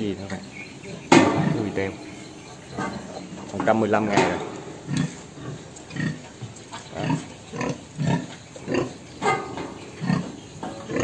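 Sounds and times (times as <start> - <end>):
pig grunting: 0.0 - 11.0.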